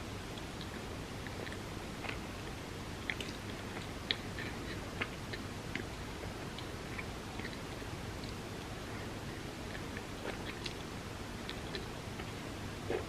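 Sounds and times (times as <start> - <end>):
background hiss: 0.0 - 13.0
mouth chewing clicks and smacks: 0.3 - 8.8, 9.6 - 13.0.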